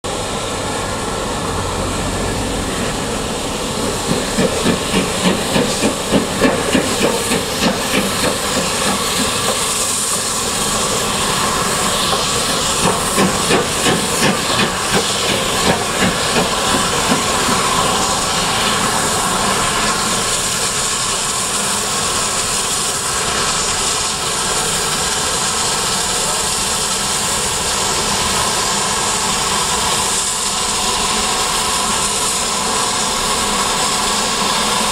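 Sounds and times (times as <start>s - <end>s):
hiss of escaping steam: 0.1s - 34.9s
steam locomotive exhaust chuffs: 0.1s - 34.9s.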